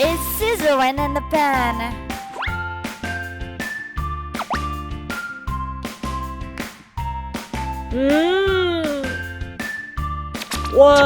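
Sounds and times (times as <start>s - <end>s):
upbeat children's music: 0.0s - 11.0s.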